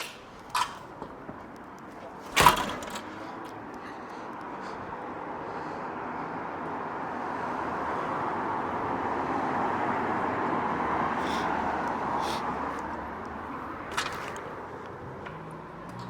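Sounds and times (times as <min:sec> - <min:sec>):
vehicle passing: 0:02.4 - 0:16.0.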